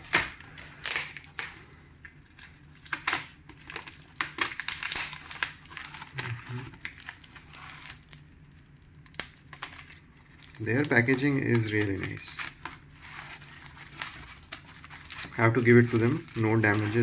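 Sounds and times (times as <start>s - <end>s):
cardboard packaging rustling: 0.0s - 17.0s.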